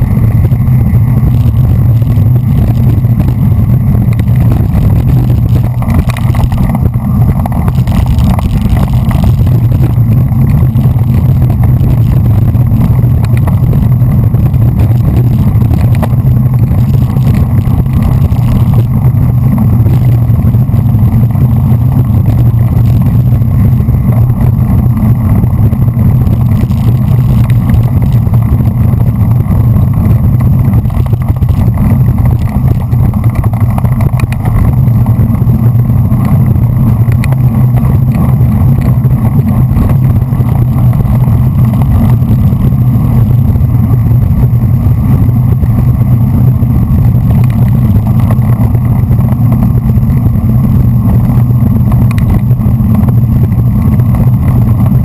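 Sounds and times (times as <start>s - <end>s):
road vibration rumble: 0.0s - 55.0s
wind buffeting: 0.0s - 55.0s.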